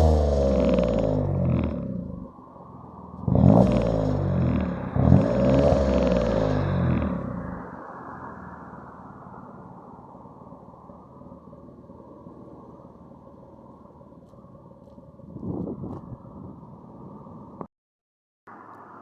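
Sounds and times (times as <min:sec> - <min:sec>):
car engine idling exhaust rumble: 0:00.0 - 0:17.2.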